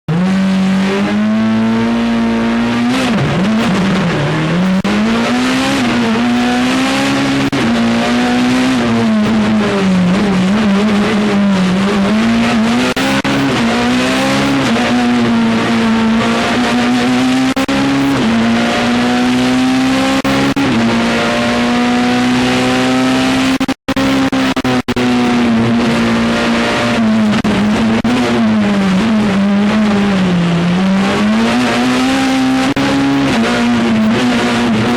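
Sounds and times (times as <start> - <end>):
rally car engine at high revs: 0.0 - 34.9.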